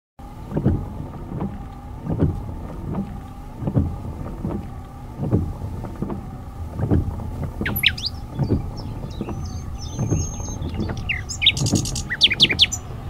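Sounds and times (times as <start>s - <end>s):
water dripping into a drain: 0.4s - 13.0s.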